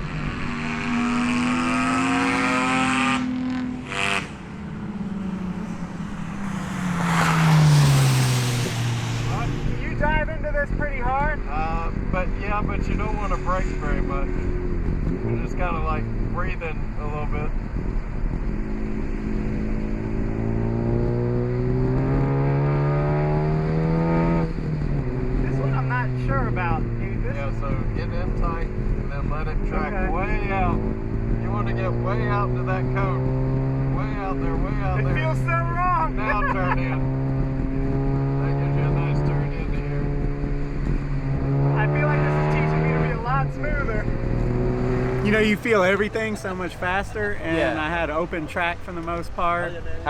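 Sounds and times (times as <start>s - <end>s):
race car engine revving: 0.0s - 49.6s.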